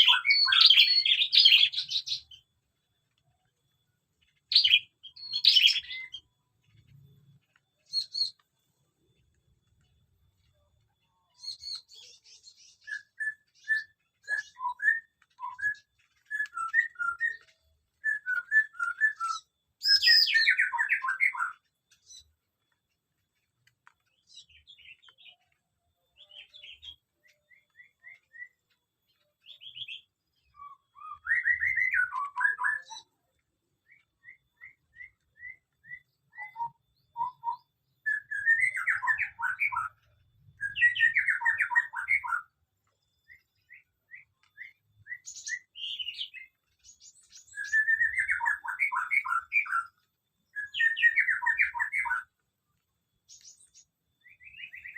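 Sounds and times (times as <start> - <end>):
birds chirping: 0.0 - 54.9
birds twittering: 0.0 - 54.9.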